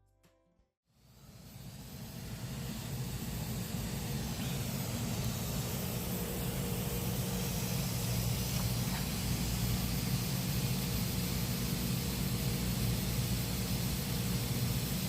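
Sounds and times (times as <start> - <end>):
air conditioner unit humming: 0.9 - 15.0.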